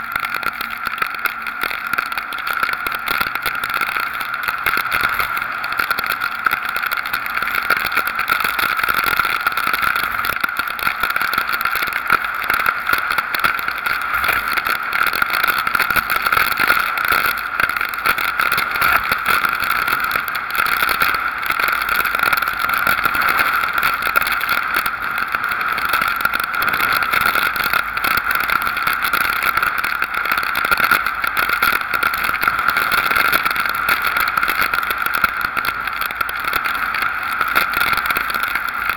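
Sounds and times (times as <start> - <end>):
storm wind and rain hiss: 0.0 - 38.9.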